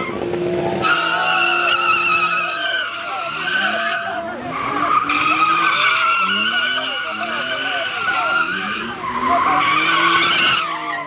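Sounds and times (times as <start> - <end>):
car engine revving: 0.0 - 11.0
car tyres squealing: 0.0 - 11.0.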